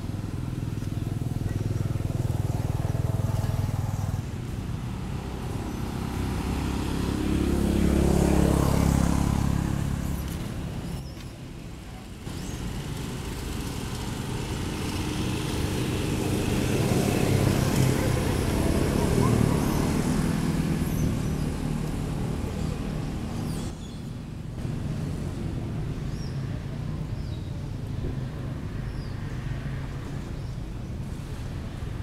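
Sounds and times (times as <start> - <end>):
vehicle engines running: 0.0 - 32.0.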